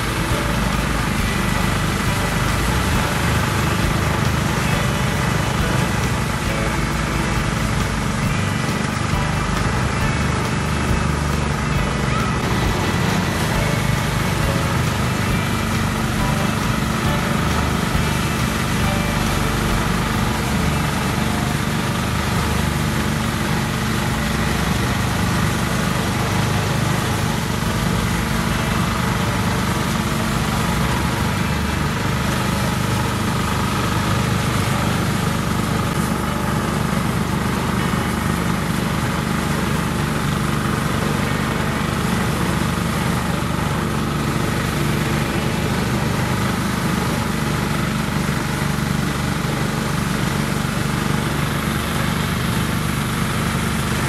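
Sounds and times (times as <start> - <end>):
rice thresher engine running: 0.0 - 54.0.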